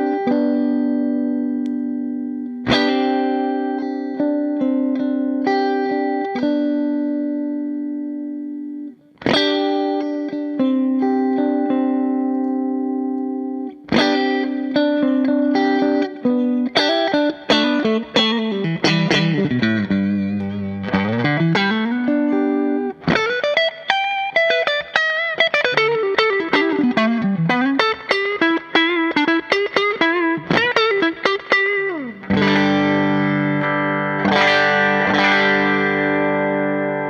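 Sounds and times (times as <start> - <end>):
electric guitar: 0.0 - 37.0.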